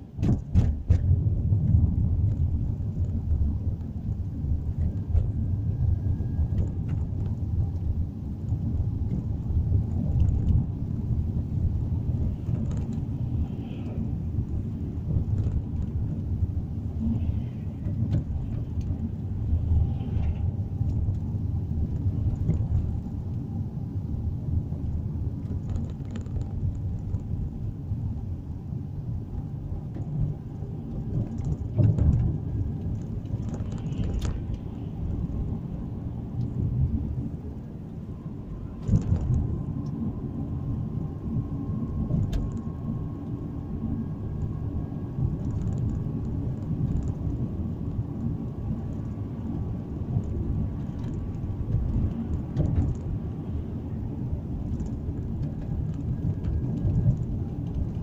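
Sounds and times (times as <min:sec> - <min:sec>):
car road rumble from inside: 0:00.0 - 0:58.0.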